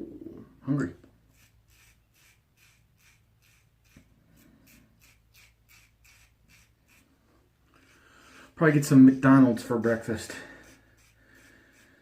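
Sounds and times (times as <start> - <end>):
razor scraping stubble: 1.3 - 12.0.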